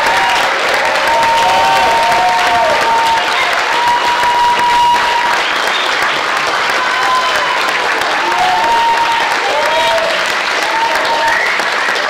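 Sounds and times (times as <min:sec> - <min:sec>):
audience applauding: 0:00.0 - 0:12.0
whistles and whoops: 0:01.4 - 0:12.0.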